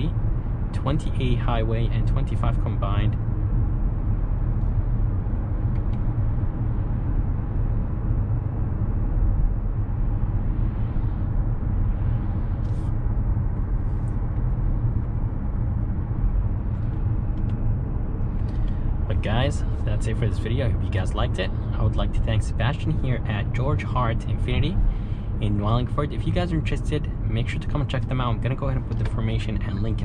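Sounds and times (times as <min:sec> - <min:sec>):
car road noise rumble: 0:00.0 - 0:30.0.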